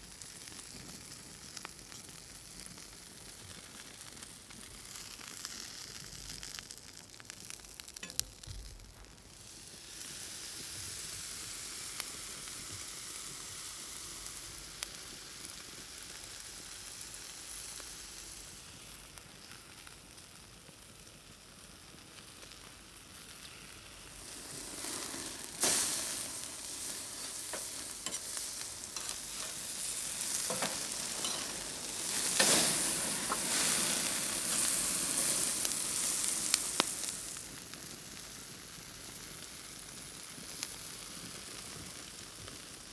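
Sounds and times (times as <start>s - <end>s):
meat sizzling on a grill: 0.0s - 42.9s.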